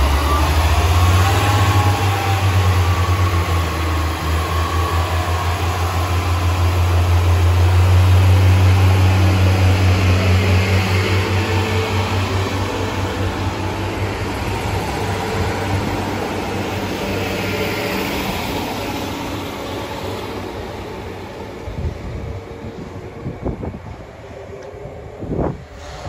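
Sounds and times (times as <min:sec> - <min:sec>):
train engine hum and wheel rumble: 0:00.0 - 0:26.0.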